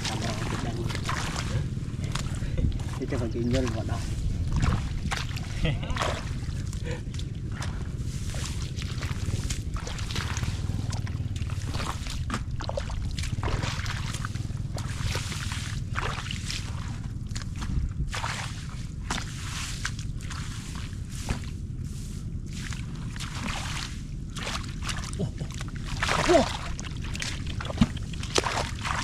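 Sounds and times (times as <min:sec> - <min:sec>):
muddy water sloshing: 0:00.0 - 0:29.0
steady low rumble: 0:00.0 - 0:29.0.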